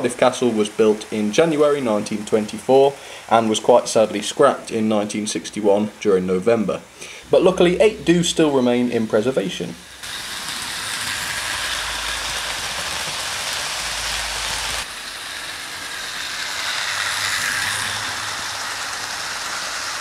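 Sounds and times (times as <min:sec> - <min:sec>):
model train rattling along track: 0:00.0 - 0:06.7, 0:07.4 - 0:20.0.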